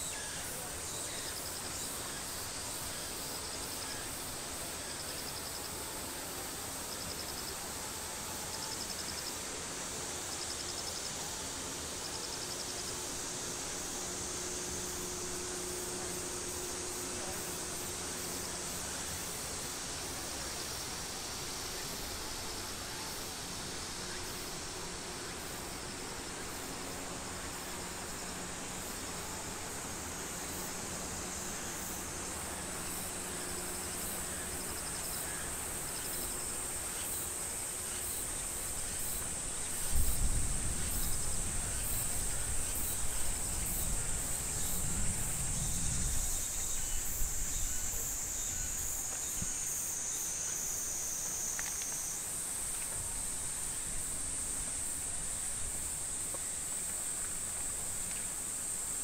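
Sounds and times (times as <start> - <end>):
high-pitched insect chorus: 0.0 - 59.0
lower insect song: 0.0 - 59.0.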